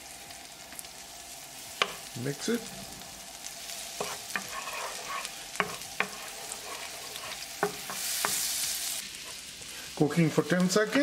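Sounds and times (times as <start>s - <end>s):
garlic sizzling in a pan: 0.0s - 11.0s.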